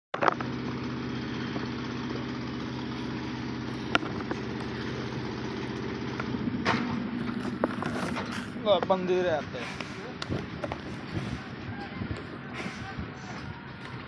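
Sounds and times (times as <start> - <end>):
engine running steadily: 0.1 - 14.0.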